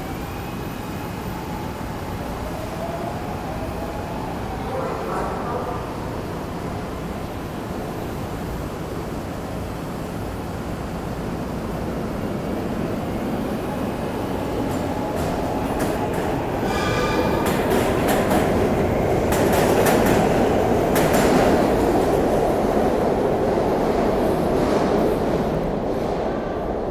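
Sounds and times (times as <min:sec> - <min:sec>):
subway train rumble: 0:00.0 - 0:26.9.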